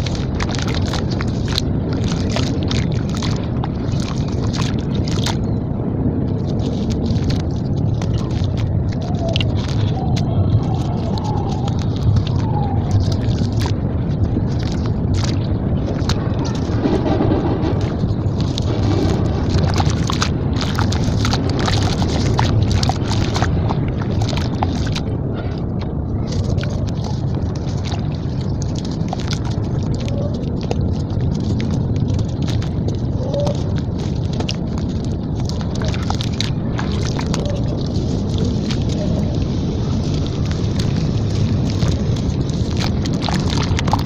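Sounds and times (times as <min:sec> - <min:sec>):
wet slabs crunching: 0:00.0 - 0:05.5, 0:06.3 - 0:44.0
steady low rumble: 0:00.0 - 0:44.0
water sloshing: 0:00.0 - 0:44.0.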